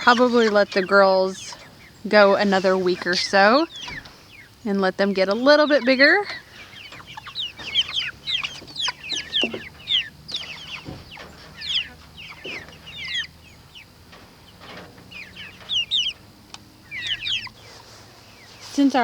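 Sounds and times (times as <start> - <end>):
chickens peeping and clucking: 0.0 - 19.0.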